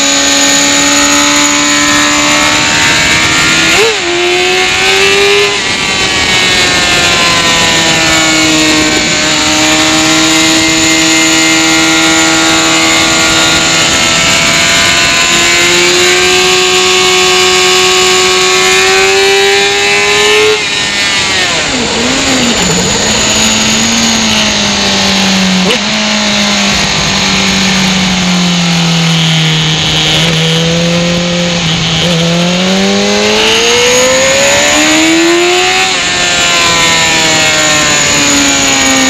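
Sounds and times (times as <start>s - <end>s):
motorcycle engine at speed: 0.0s - 39.0s.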